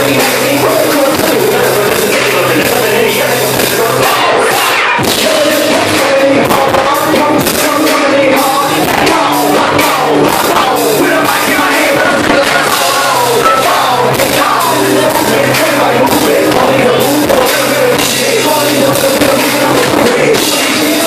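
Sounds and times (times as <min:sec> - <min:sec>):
distorted electric guitar: 0:00.0 - 0:21.0
drum kit: 0:00.0 - 0:21.0
rapped shouted vocals: 0:00.0 - 0:21.0.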